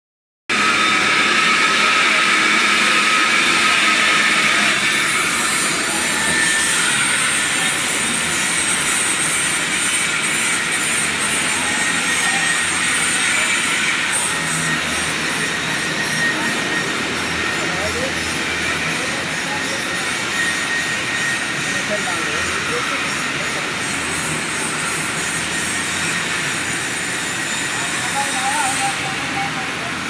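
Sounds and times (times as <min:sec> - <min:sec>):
metalworking hiss with whine: 0:00.5 - 0:30.0.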